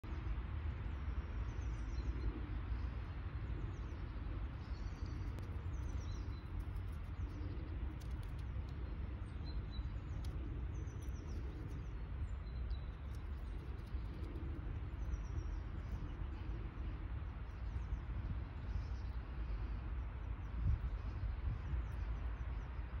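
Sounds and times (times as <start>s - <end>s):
low outdoor rumble: 0.0s - 23.0s
small birds chirping: 0.0s - 23.0s.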